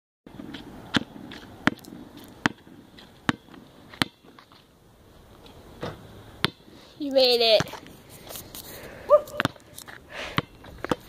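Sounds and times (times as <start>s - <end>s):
basketball bouncing on asphalt: 0.3s - 4.8s, 5.4s - 8.0s, 9.1s - 11.0s.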